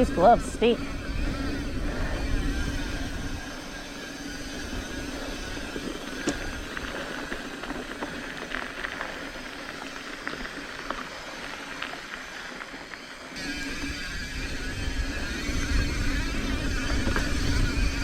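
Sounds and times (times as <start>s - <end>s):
bike clicks and rattles: 0.0s - 18.0s
bike tyre and drivetrain noise: 0.0s - 18.0s.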